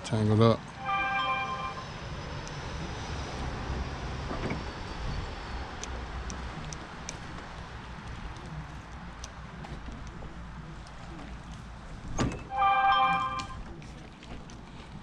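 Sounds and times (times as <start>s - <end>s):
outdoor background rumble and hiss: 0.0s - 15.0s.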